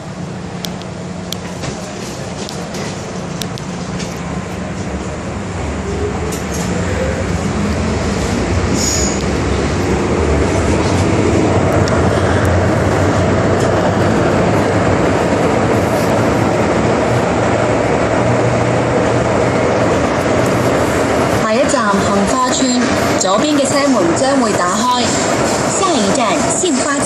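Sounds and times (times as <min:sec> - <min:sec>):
metro train running: 0:00.0 - 0:27.0.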